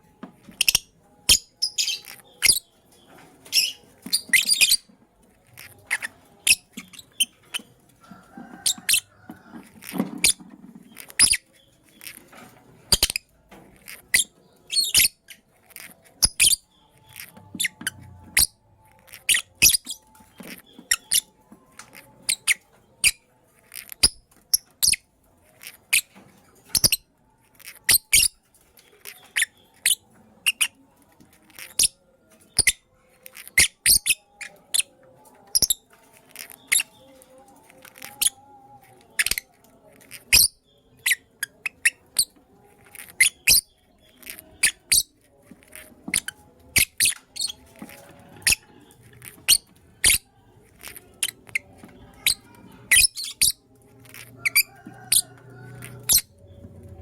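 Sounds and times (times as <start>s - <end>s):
lovebirds chirping: 0.4s - 57.0s.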